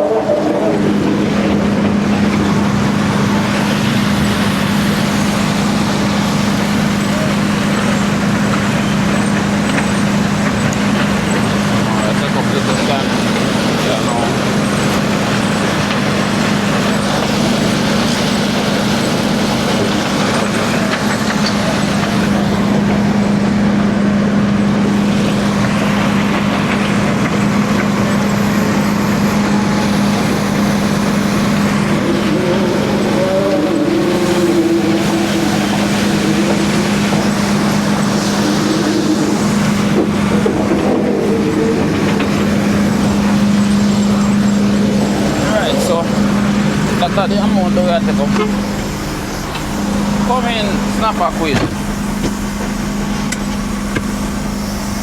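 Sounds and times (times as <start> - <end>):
diesel truck engine humming: 0.0 - 55.0.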